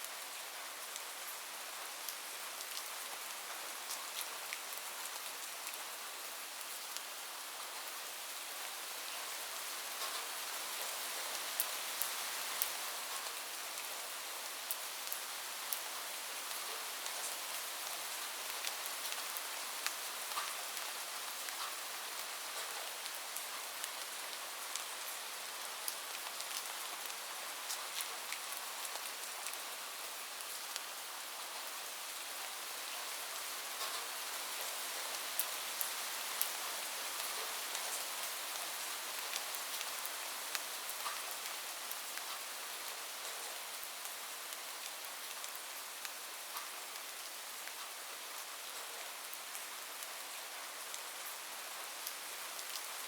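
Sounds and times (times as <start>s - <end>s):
heavy rain on a roof: 0.0s - 53.0s.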